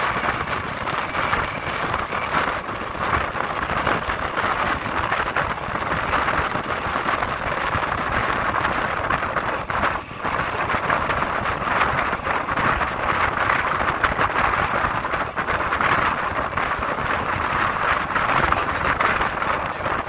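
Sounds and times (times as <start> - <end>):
train wheels rumbling on rails: 0.0 - 20.0
wind rushing: 0.0 - 20.0.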